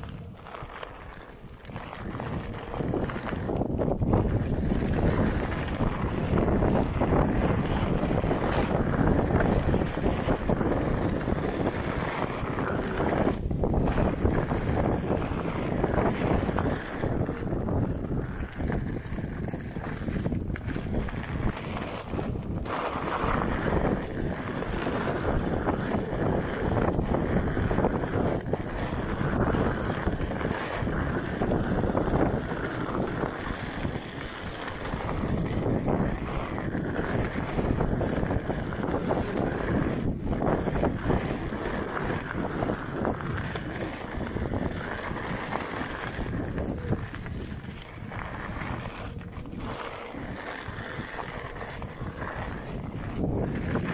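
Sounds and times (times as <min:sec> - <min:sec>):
tyre rolling over packed dirt: 0:00.0 - 0:53.9
wind buffeting microphone: 0:00.0 - 0:53.9.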